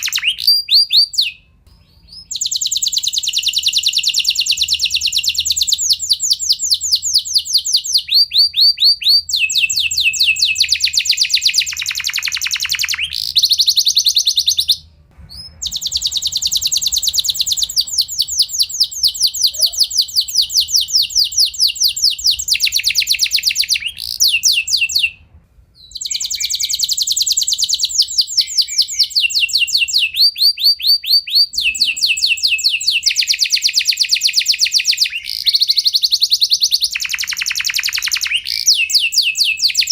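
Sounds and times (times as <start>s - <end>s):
canary singing rolled trills: 0.0s - 39.9s.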